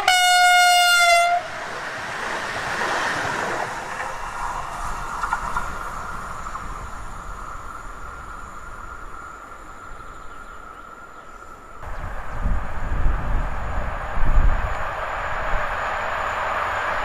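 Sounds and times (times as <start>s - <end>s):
approaching train rumble: 0.0s - 17.0s
electric train rail noise and whine: 0.0s - 17.0s.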